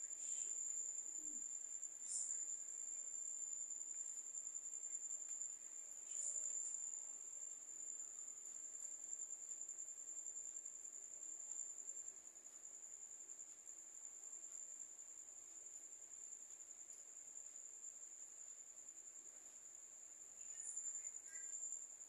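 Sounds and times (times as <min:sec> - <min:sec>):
high-pitched insect trill: 0:00.0 - 0:12.2, 0:12.9 - 0:22.0.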